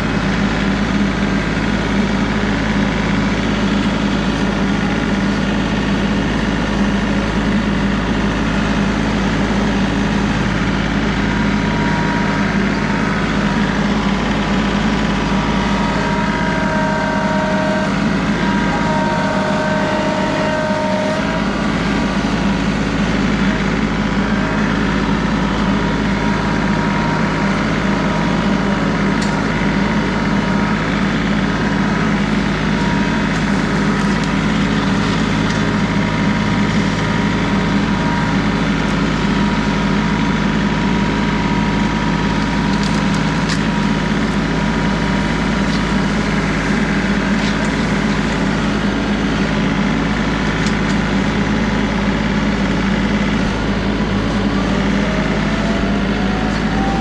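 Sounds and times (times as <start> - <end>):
high whine: 0.0 - 57.0
tractor diesel engine running: 0.0 - 57.0.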